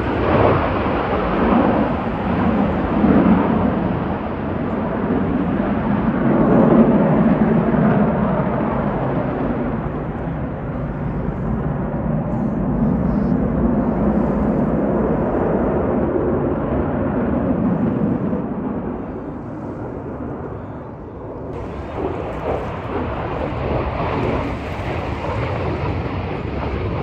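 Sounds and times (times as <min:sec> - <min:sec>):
jet aircraft rumble: 0:00.0 - 0:27.0
wind buffeting microphone: 0:00.0 - 0:27.0.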